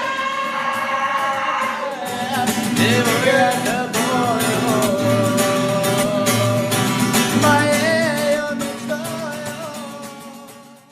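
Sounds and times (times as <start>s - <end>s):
strummed guitar: 0.0s - 10.9s.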